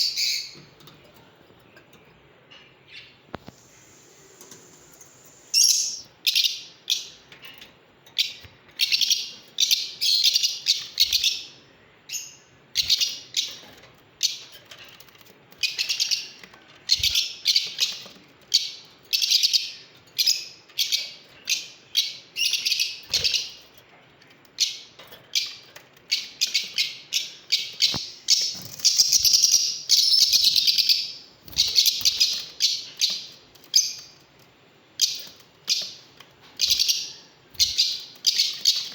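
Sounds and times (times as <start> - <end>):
lovebirds chirping: 0.0 - 23.8, 24.4 - 38.9.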